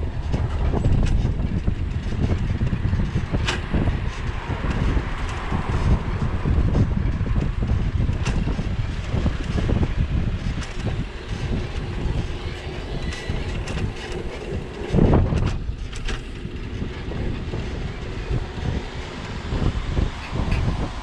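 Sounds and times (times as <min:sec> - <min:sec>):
bicycle bump: 0:00.0 - 0:21.0
bicycle rattling and clicking: 0:00.0 - 0:21.0
wind buffeting microphone: 0:00.0 - 0:21.0.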